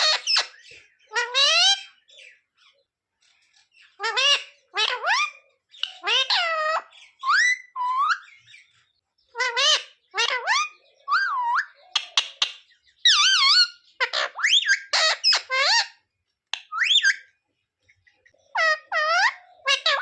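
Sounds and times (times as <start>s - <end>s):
parrot squeaky whistling calls: 0.0s - 2.0s, 3.9s - 8.7s, 9.3s - 17.3s, 18.5s - 20.0s.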